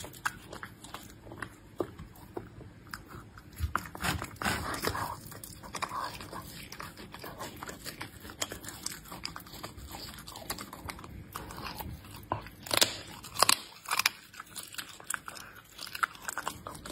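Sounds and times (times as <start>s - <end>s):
animal chewing and licking: 0.0s - 16.9s.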